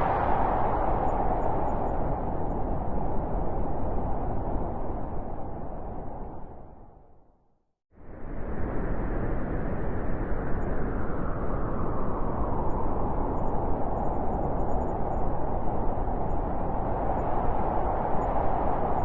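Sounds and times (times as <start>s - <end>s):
howling blizzard wind: 0.0s - 7.2s, 8.0s - 19.0s.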